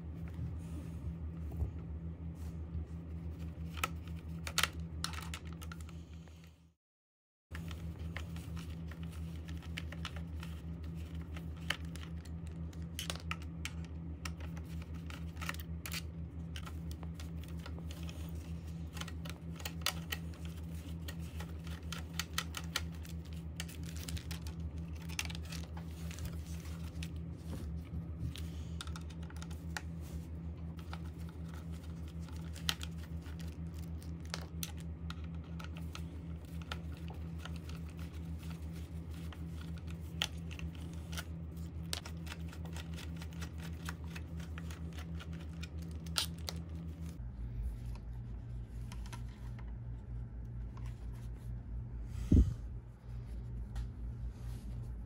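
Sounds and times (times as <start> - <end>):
steady low hum: 0.0 - 6.8, 7.5 - 55.0.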